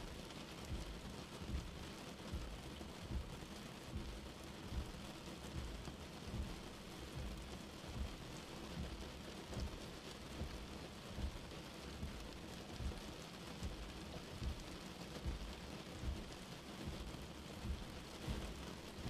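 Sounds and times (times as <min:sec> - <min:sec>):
rain on windshield: 0:00.0 - 0:19.0.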